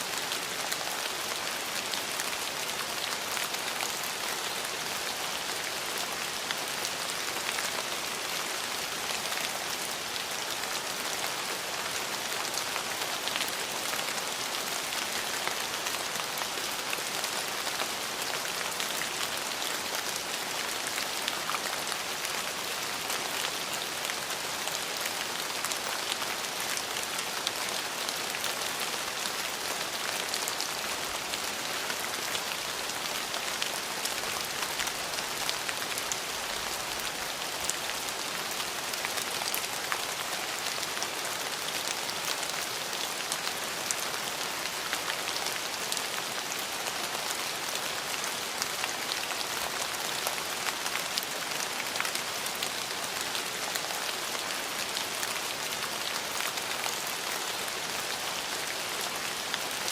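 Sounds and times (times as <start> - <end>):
raindrops ticking on surfaces: 0.0 - 59.9
steady rain hiss: 0.0 - 59.9.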